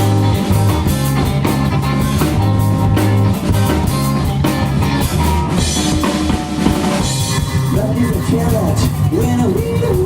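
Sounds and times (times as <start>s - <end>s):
live rock band playing: 0.0s - 10.0s.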